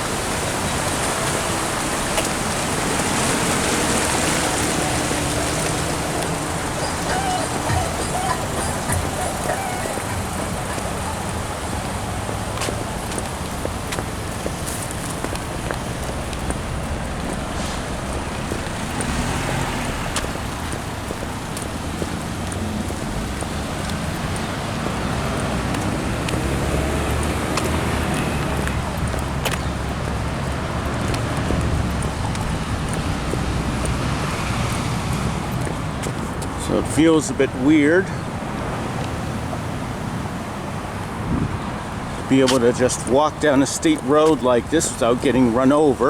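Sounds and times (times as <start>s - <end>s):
wind on microphone: 0.0s - 36.6s, 40.4s - 42.2s
road traffic rumble: 0.0s - 46.0s.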